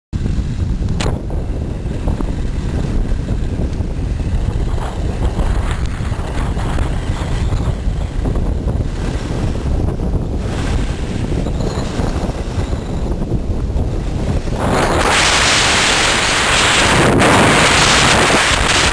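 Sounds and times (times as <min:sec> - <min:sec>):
wind buffeting microphone: 0:00.2 - 0:18.9
skis scraping on snow: 0:01.6 - 0:18.9.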